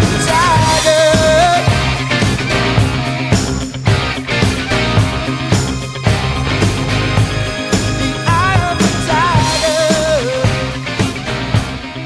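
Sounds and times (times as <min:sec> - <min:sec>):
steady drum beat: 0:00.0 - 0:12.0
wavering lead melody: 0:00.0 - 0:12.0.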